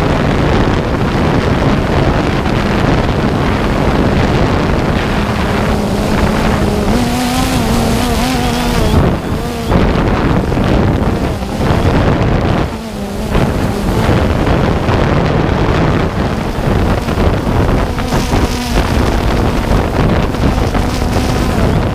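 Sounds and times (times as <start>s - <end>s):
drone propellers whirring: 0.0s - 21.9s
wind buffeting microphone: 0.0s - 21.9s.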